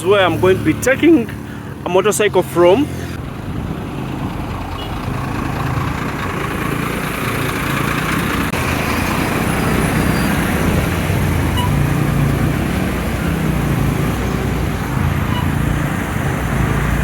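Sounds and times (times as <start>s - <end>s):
road traffic noise: 0.0s - 17.0s
vehicle engine running: 0.0s - 17.0s.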